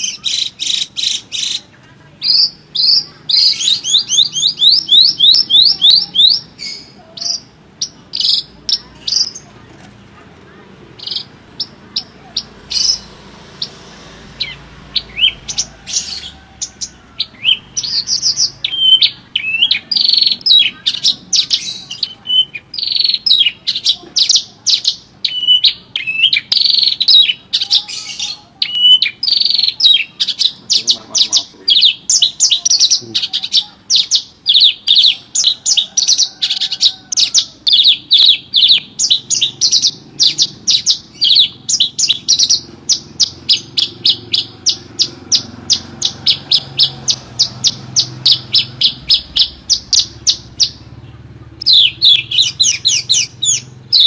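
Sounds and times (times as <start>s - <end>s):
lark singing chirps and trills: 0.0s - 9.5s, 11.0s - 54.0s.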